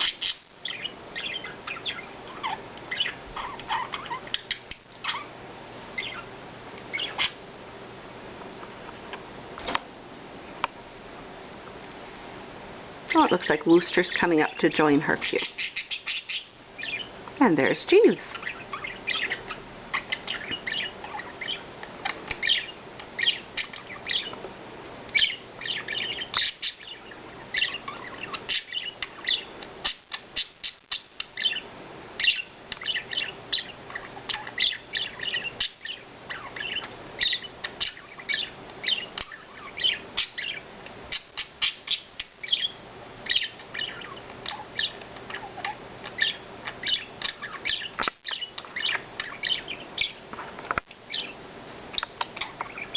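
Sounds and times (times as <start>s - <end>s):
budgerigars chirping: 0.0s - 5.3s, 6.0s - 6.3s, 6.9s - 7.4s, 13.2s - 24.4s, 25.1s - 50.2s, 51.1s - 52.9s.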